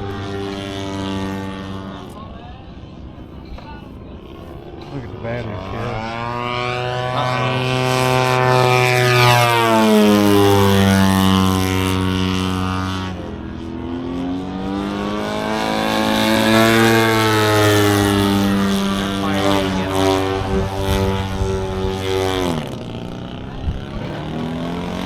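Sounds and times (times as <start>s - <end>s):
model airplane motor and propeller: 0.0s - 25.0s.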